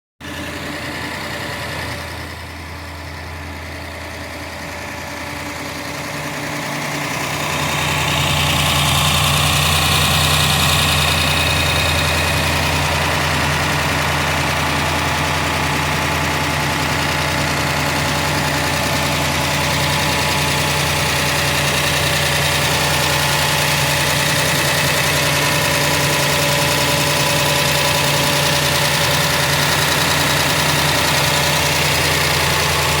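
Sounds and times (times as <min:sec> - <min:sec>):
vehicle engine idling: 0:00.2 - 0:33.0.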